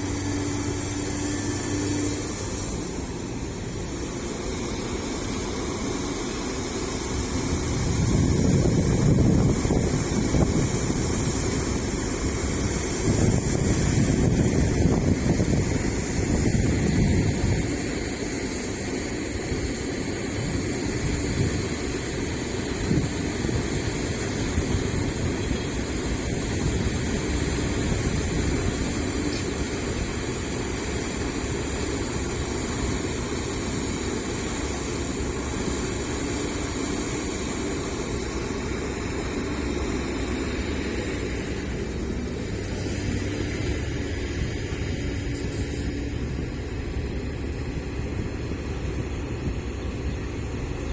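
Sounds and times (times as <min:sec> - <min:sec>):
diesel machinery running: 0:00.0 - 0:50.9.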